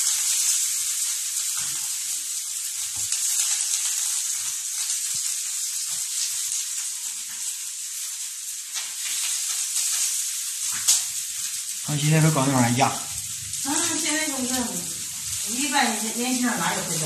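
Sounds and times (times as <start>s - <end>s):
water boiling in a wok: 0.0s - 17.0s.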